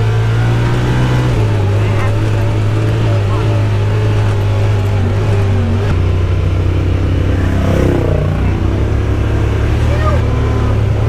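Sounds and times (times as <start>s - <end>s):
utility vehicle engine droning: 0.0s - 11.0s.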